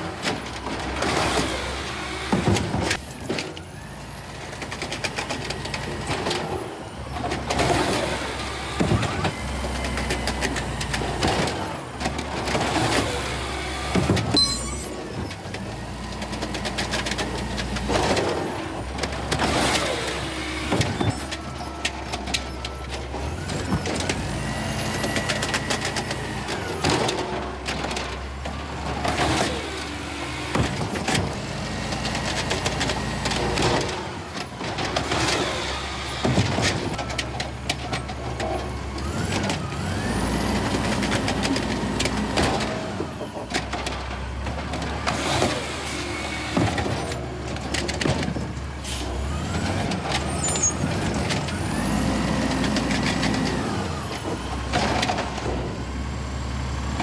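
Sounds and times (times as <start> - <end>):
clunks and bangs from carts: 0.0 - 57.0
garbage truck engine revving: 0.0 - 57.0
hydraulic arm lifting carts: 0.0 - 57.0.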